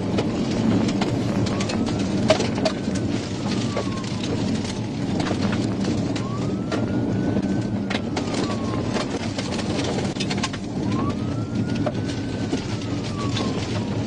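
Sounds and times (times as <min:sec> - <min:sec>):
car engine and road noise: 0:00.0 - 0:14.0
police siren wailing: 0:00.0 - 0:14.0.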